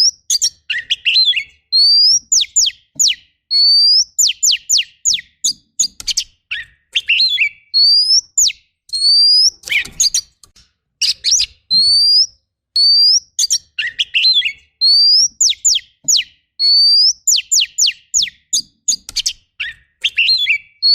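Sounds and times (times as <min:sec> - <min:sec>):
songbird singing: 0:00.0 - 0:10.4, 0:11.0 - 0:20.9.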